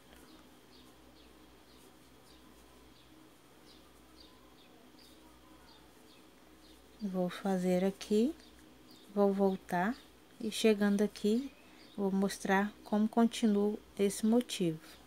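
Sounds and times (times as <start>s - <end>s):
small bird chirping: 0.0s - 13.7s
low steady hum: 0.0s - 15.0s.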